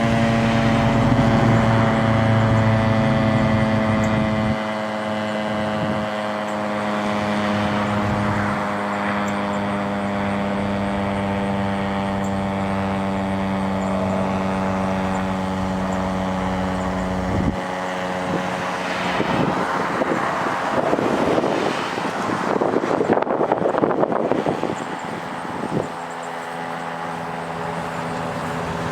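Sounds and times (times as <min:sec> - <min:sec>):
warning siren winding down: 0:00.0 - 0:28.9.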